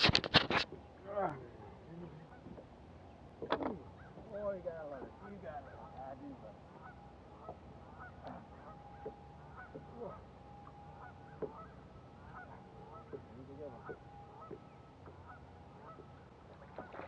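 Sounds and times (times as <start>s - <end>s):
steady low hum: 0.0s - 17.0s
honking bird calls: 2.2s - 4.3s, 4.9s - 17.0s.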